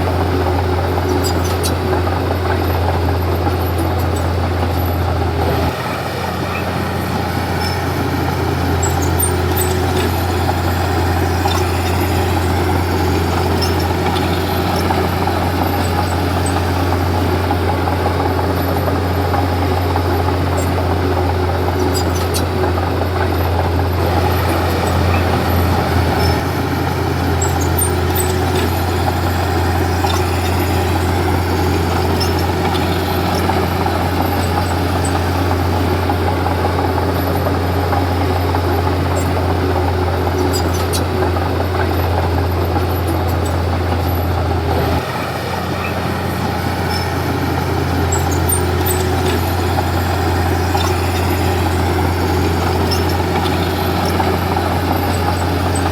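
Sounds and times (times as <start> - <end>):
bulldozer diesel engine: 0.0 - 55.9.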